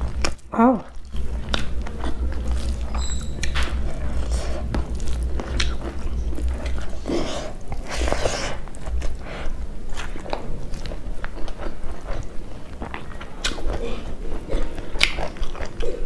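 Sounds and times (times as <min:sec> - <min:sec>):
close chewing and lip-smacks: 0:00.0 - 0:16.0
steady low hum: 0:00.0 - 0:16.0.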